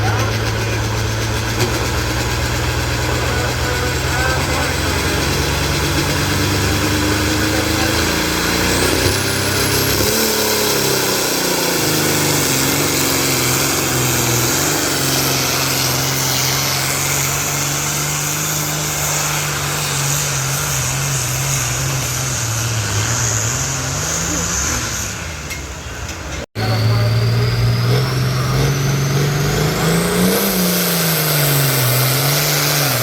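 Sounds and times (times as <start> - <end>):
tractor engine running hard: 0.0 - 33.0.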